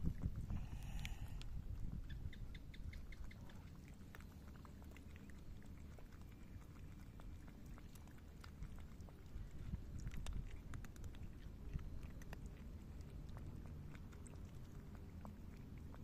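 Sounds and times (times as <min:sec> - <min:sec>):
cats crunching dry kibble: 0:00.0 - 0:01.9, 0:03.3 - 0:16.0.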